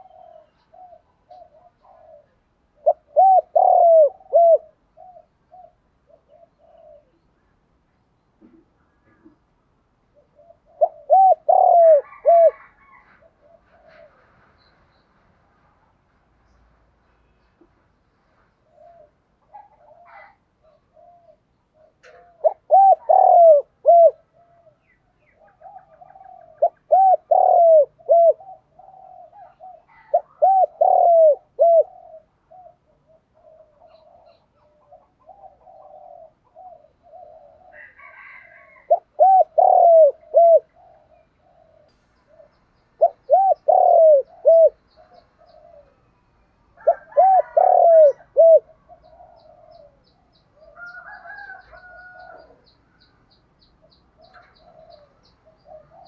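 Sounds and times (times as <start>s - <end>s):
dove cooing: 0.0s - 7.4s, 8.4s - 14.4s, 18.6s - 46.1s, 46.7s - 56.0s.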